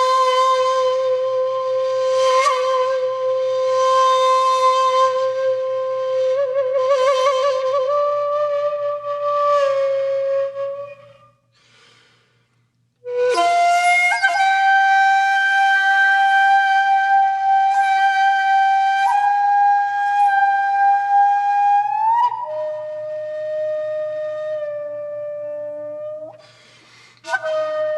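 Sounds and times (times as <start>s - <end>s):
flute long held notes: 0.0s - 11.5s, 13.0s - 26.6s, 27.2s - 27.9s.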